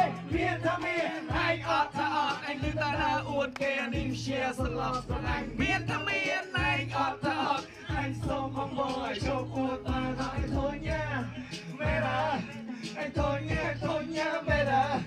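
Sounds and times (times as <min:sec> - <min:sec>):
backing music with steady beat: 0:00.0 - 0:15.0
man singing into a microphone: 0:00.0 - 0:15.0.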